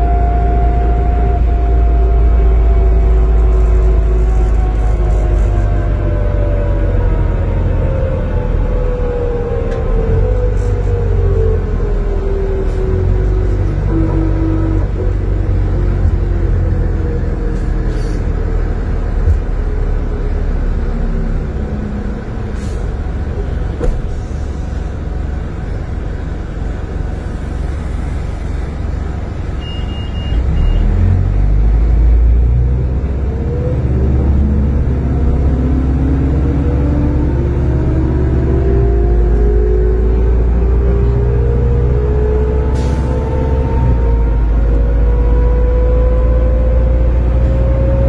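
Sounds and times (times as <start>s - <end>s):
bus diesel engine: 0.0s - 48.0s.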